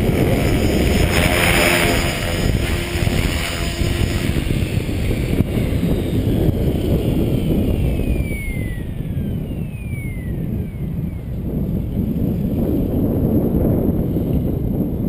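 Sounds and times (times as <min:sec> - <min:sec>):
helicopter rotor whine falling: 0:00.0 - 0:15.0
wind rumble on microphone: 0:00.0 - 0:15.0.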